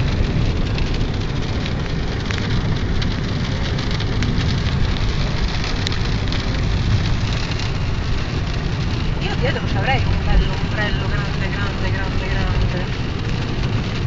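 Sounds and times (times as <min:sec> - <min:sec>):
car driving on wet road: 0:00.0 - 0:14.0
rain ticking on car: 0:00.0 - 0:14.0.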